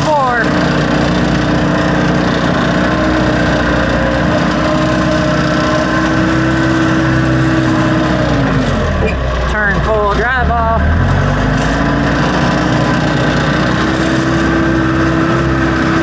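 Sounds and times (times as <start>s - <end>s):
backhoe engine running: 0.0s - 16.0s.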